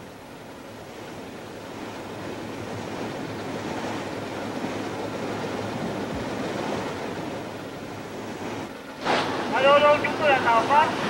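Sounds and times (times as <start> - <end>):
wind and sea rushing: 0.0 - 11.0
wind blowing on microphone: 0.9 - 11.0.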